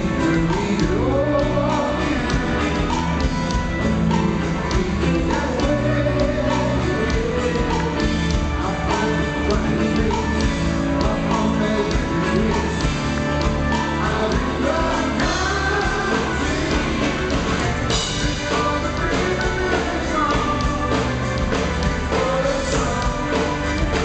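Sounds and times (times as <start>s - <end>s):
lead vocal singing: 0.0s - 24.0s
live rock band playing: 0.0s - 24.0s.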